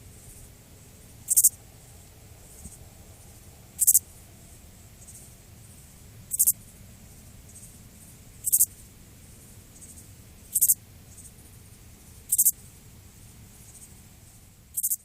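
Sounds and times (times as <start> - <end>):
faint steady hiss: 0.0 - 15.0
insect buzzy chirps: 0.2 - 1.6, 2.4 - 15.0.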